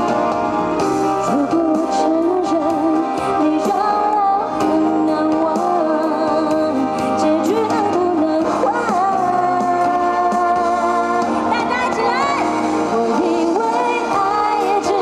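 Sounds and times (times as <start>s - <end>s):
live pop band over loudspeakers: 0.0s - 15.0s.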